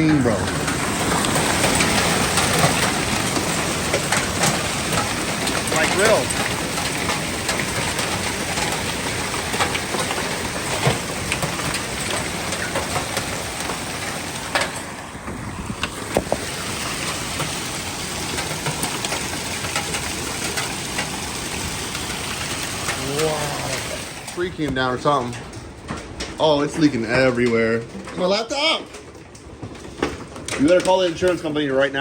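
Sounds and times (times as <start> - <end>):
hailstones striking: 0.0 - 32.0
heavy rain pouring: 0.0 - 32.0.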